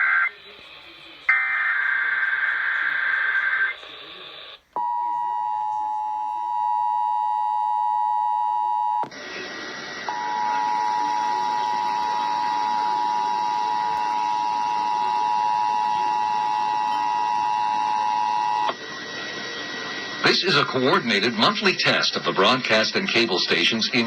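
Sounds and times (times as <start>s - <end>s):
broadcast hiss: 0.0s - 4.8s, 8.2s - 24.0s.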